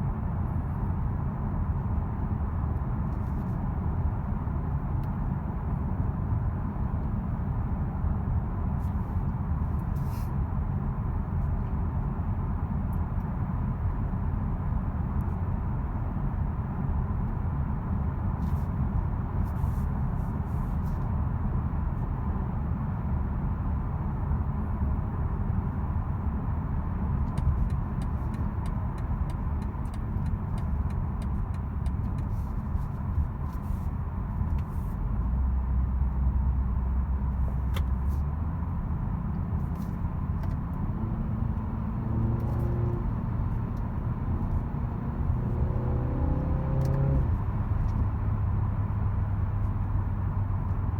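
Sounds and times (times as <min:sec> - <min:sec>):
car engine and tyres rumbling: 0:00.0 - 0:50.9.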